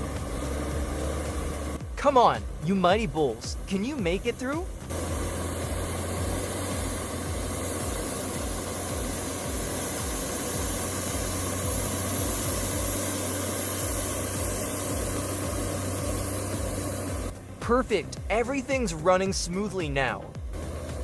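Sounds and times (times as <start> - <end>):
diesel tractor engine under load: 0.0 - 21.0.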